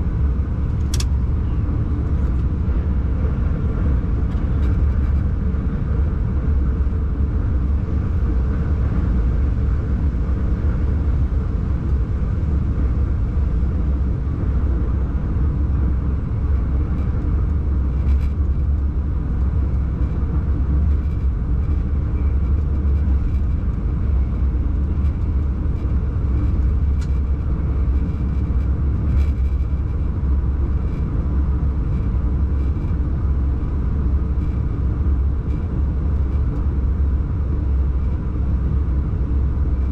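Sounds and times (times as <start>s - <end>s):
faint hum: 0.0s - 39.9s
train rumbling on track: 0.0s - 39.9s.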